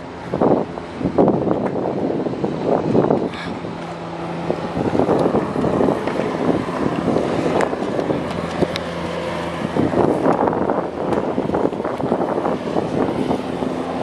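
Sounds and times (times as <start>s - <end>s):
low engine hum: 0.0s - 14.0s
wind buffeting microphone: 0.0s - 14.0s.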